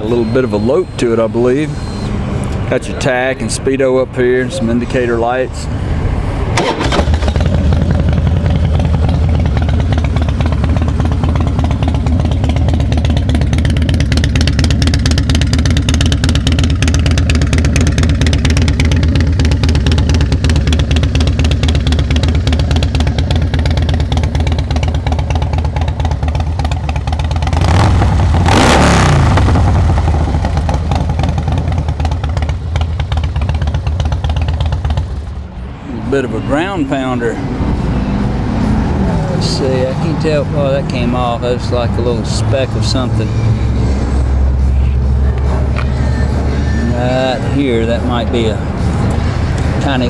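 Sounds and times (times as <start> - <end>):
motorcycle engine idling and revving: 0.0 - 50.0.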